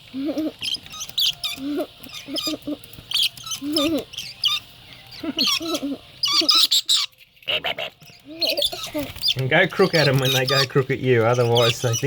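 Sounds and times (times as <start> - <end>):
lorikeets screeching: 0.0 - 12.0.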